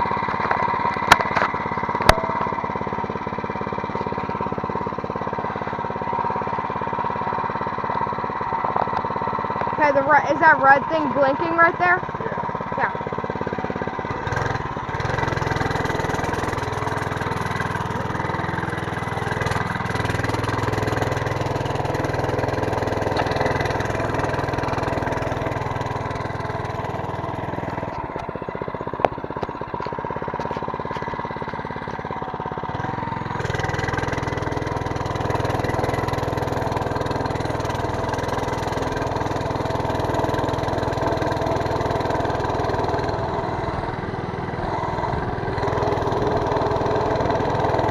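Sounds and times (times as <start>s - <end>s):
small engine rumbling: 0.0s - 47.9s.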